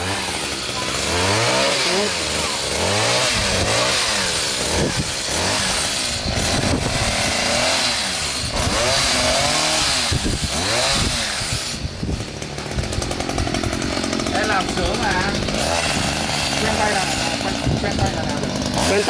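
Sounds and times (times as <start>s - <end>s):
hedge trimmer engine revving: 0.0s - 19.0s.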